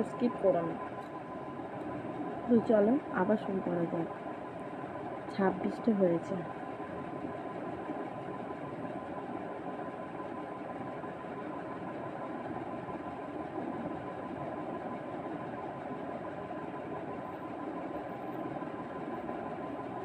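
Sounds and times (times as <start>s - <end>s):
faint steady whine: 0.0s - 20.0s.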